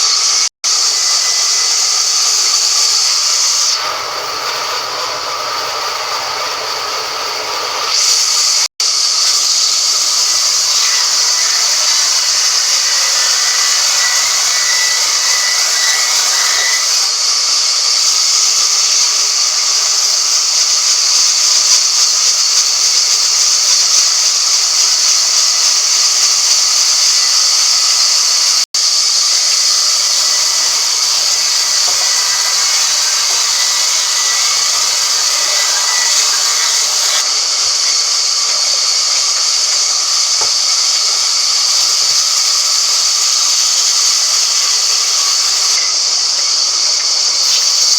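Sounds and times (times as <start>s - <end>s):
woodworking machine cutting wood: 0.0s - 47.9s.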